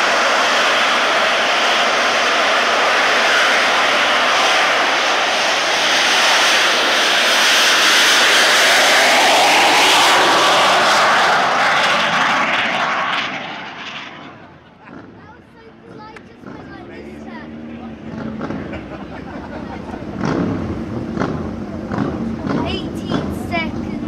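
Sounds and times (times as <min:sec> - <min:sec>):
gas turbine engine rushing: 0:00.0 - 0:24.0.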